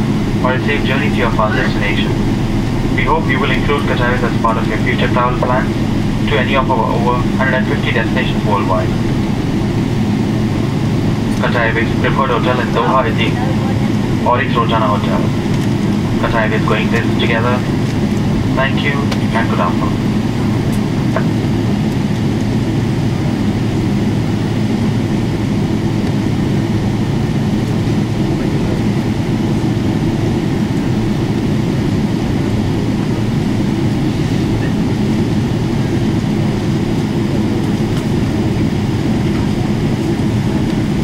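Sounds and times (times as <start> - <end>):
aircraft cabin rumble and hum: 0.0 - 41.0.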